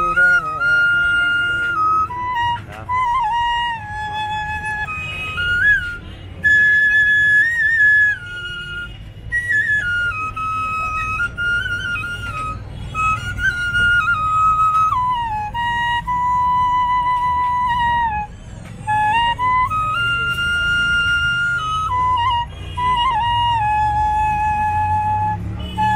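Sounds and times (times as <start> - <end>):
bamboo flute solo melody: 0.0 - 25.9.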